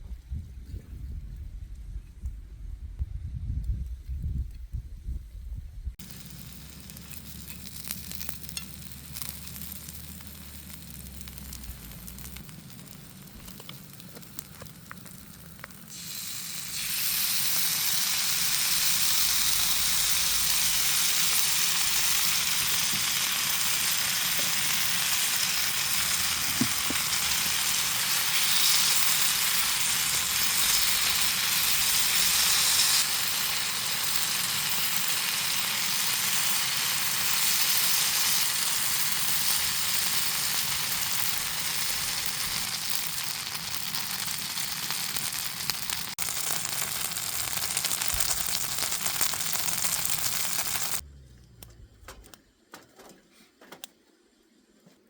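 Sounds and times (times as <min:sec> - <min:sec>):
food sizzling in a pan: 0:06.0 - 0:51.0.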